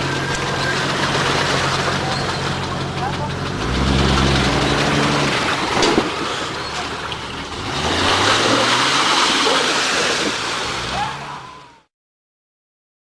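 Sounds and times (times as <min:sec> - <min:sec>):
water splashing: 0:00.0 - 0:11.6
car engine revving: 0:00.0 - 0:11.7.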